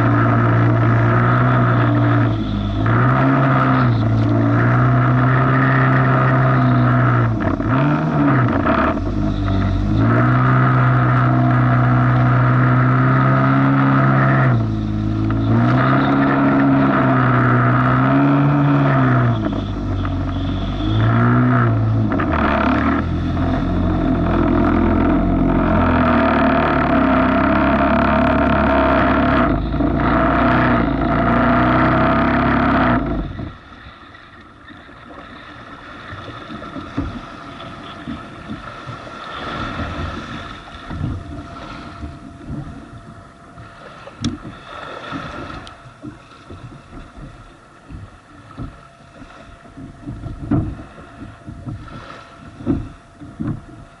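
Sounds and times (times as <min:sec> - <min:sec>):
jet ski engine running: 0:00.0 - 0:54.0
water rushing: 0:00.0 - 0:54.0.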